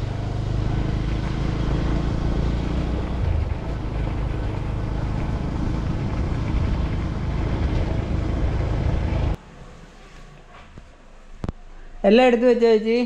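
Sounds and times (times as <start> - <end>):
motorcycle running: 0.0 - 10.9.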